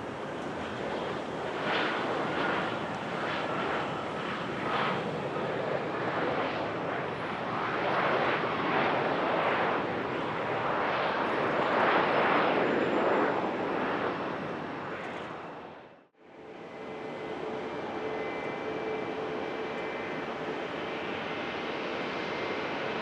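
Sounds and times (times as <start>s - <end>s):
airplane engine rushing: 0.0s - 23.0s.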